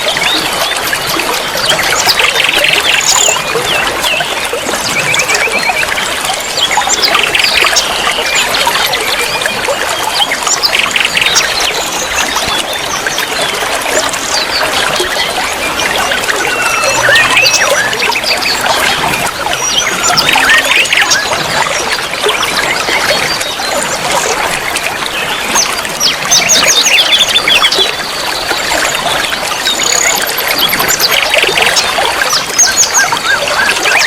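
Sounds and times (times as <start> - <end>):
songbirds chirping and trilling: 0.0 - 34.0
water trickling: 0.0 - 34.0.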